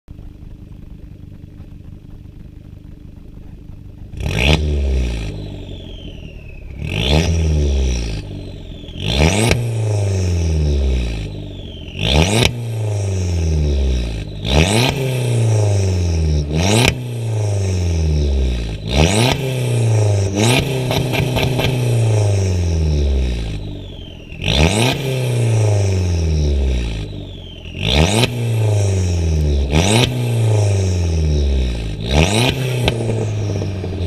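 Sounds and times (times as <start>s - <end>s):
exhaust crackles and pops: 0.0s - 34.0s
car engine revving hard: 4.1s - 34.0s.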